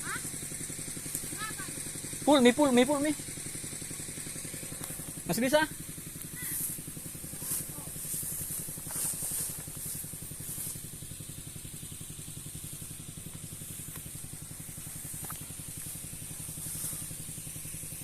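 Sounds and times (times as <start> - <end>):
small petrol engine chugging: 0.0 - 18.0.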